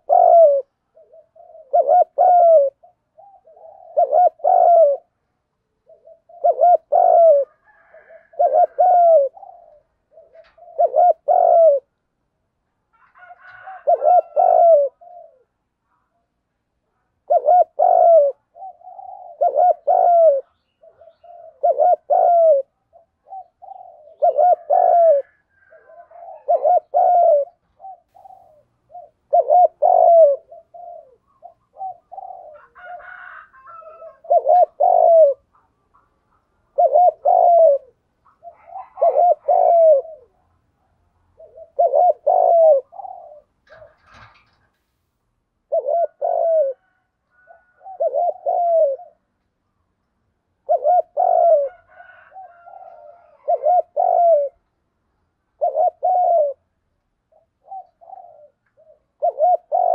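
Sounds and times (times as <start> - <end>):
dove cooing: 0.0 - 12.0, 12.9 - 16.3, 16.9 - 44.7, 45.6 - 49.4, 50.5 - 54.7, 55.4 - 59.9.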